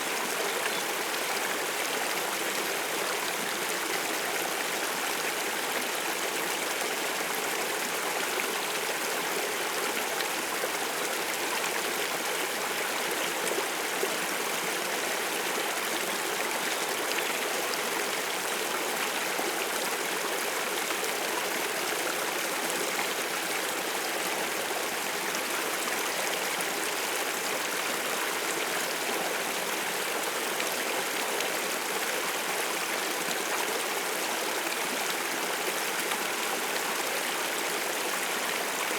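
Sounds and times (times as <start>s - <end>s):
water stream flowing: 0.0s - 38.9s.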